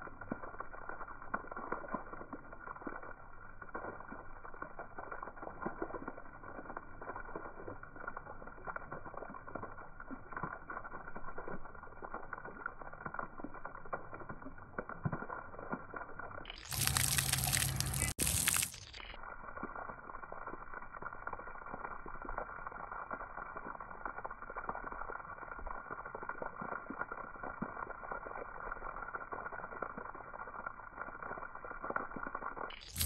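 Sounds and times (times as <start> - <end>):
water jets spraying on concrete: 0.0 - 33.0.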